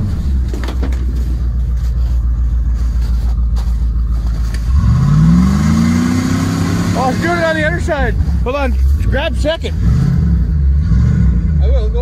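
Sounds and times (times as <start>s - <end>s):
pickup engine idling and revving: 0.0s - 12.0s.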